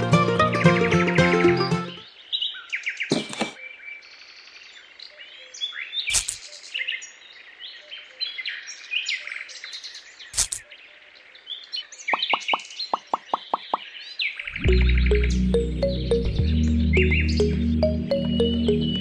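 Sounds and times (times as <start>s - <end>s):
small birds chirping: 0.5s - 19.0s.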